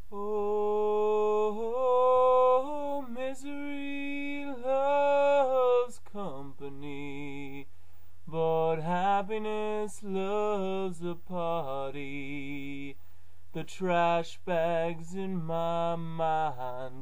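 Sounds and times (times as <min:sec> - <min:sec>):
man singing without words: 0:00.0 - 0:17.0.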